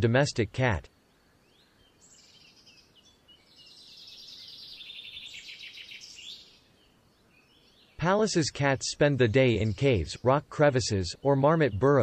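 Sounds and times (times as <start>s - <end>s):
faint high-pitched chirping: 0.0s - 12.0s.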